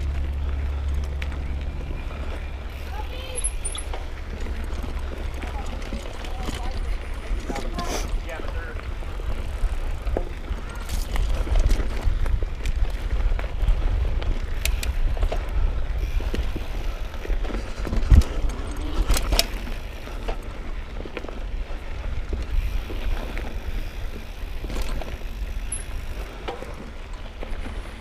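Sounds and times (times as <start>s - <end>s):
bike clicks and rattles: 0.0s - 28.0s
bike rumbling over rough trail: 0.0s - 28.0s.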